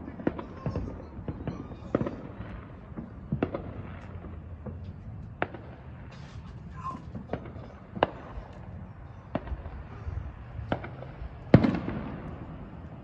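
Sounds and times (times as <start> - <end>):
rolling echo: 0.0 - 6.2, 6.9 - 13.0
distant fireworks bangs: 0.0 - 13.0.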